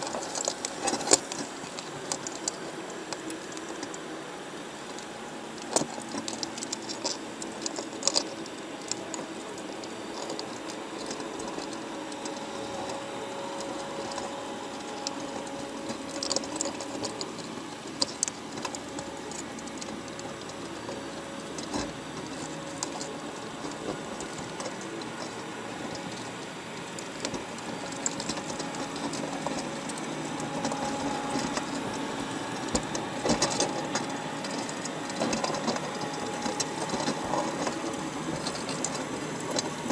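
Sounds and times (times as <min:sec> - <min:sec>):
sharp clicks and rattles: 0:00.0 - 0:04.1, 0:04.8 - 0:39.9
machine humming: 0:00.0 - 0:39.9.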